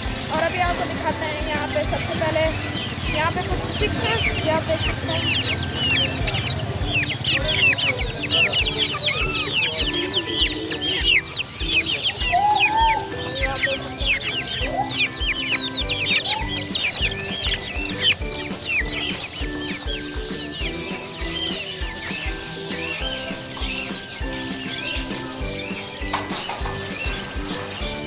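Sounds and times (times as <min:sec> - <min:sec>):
background music with beat: 0:00.0 - 0:28.0
chickens clucking: 0:00.0 - 0:28.0
small birds chirping: 0:00.0 - 0:28.0.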